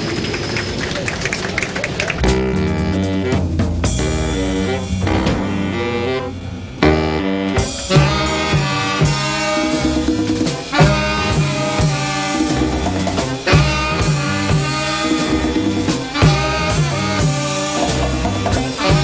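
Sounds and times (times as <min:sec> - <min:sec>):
big band jazz: 0:01.8 - 0:19.0.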